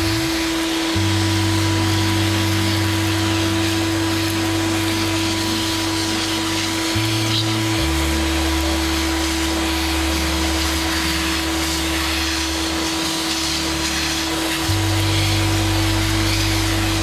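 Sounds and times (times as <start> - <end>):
machine motors humming: 0.0 - 17.0
router cutting wood: 0.0 - 17.0.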